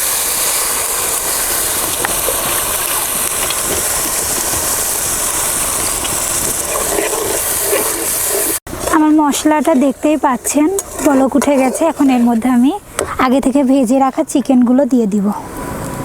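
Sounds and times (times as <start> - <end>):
paste sizzling in hot oil: 0.0 - 14.4.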